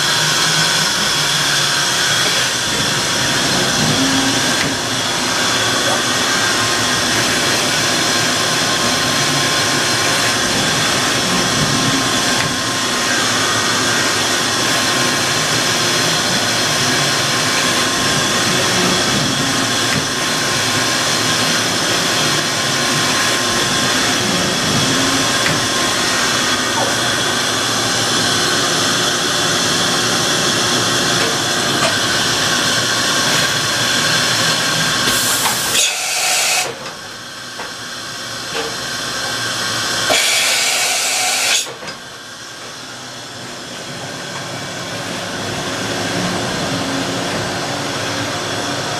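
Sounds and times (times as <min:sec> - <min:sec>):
machine hiss and whir: 0:00.0 - 0:48.9.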